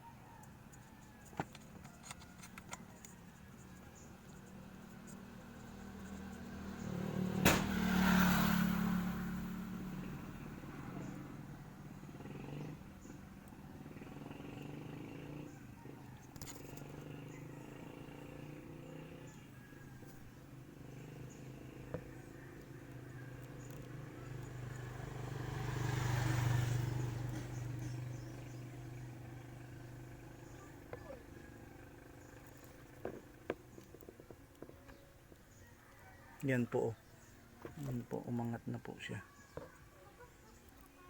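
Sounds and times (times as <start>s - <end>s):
motor vehicle passing: 0.2s - 41.0s.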